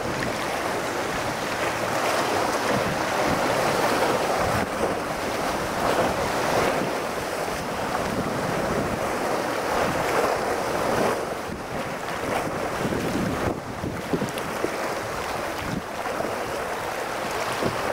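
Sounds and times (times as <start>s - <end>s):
waves splashing against rocks: 0.0s - 17.9s.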